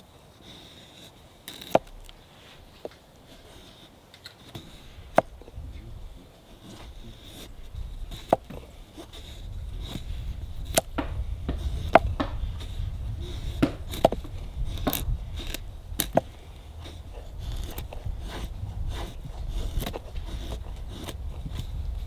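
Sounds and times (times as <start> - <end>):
knife scraping wooden stick: 0.0 - 22.0.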